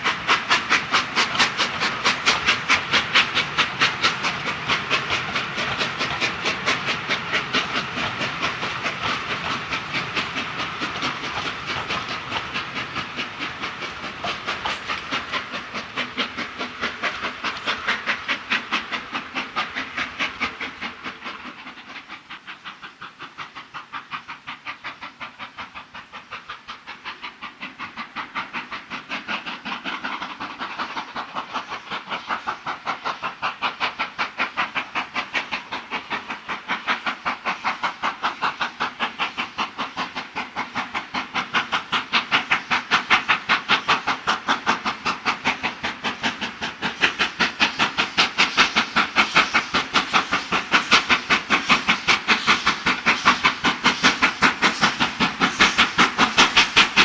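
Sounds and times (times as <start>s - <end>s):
steam hissing: 0.0s - 57.0s
steam locomotive chuffing: 0.0s - 57.0s.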